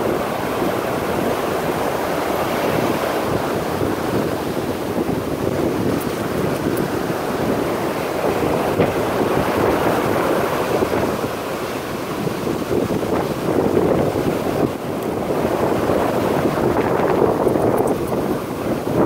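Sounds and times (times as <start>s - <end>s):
ocean surf washing up: 0.0s - 19.0s
wind buffeting microphone: 0.0s - 19.0s.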